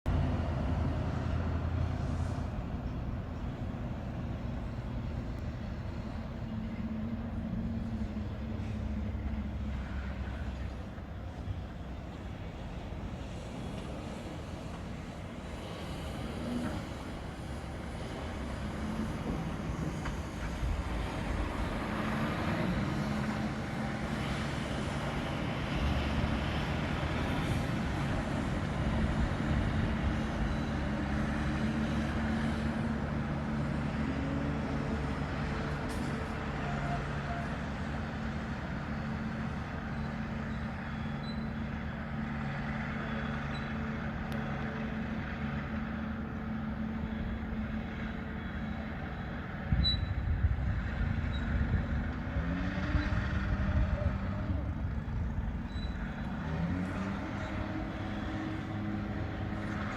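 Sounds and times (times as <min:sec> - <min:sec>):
diesel engine running: 0:00.1 - 0:59.9.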